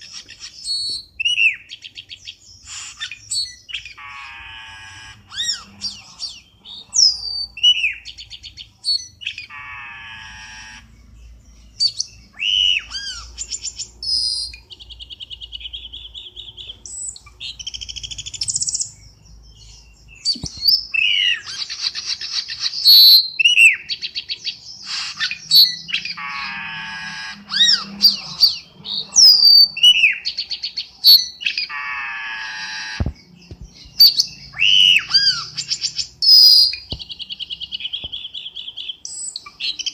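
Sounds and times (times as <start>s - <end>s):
bird whistles chirps and buzzy calls: 0.0s - 39.9s.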